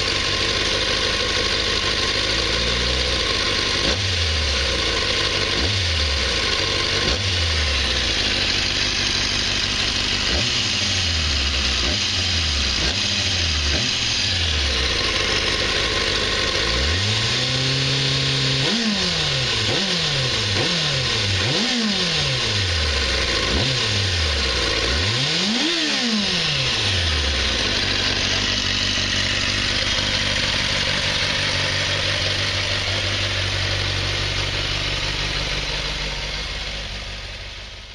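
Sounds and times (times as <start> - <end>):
motorcycle engine idling: 0.0 - 37.9
motorcycle engine revving: 0.0 - 37.9.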